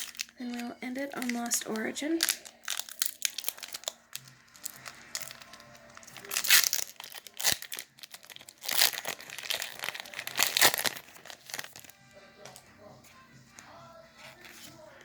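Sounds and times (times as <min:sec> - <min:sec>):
foil wrapper crinkling and tearing: 0:00.0 - 0:12.6
soft music: 0:00.0 - 0:15.0.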